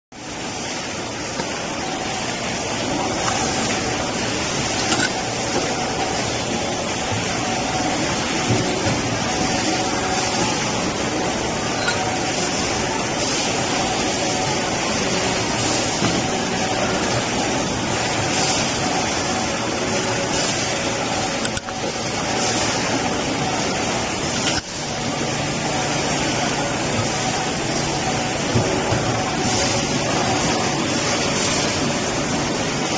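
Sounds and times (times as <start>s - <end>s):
moulding machine hiss and hum: 0.2s - 32.9s.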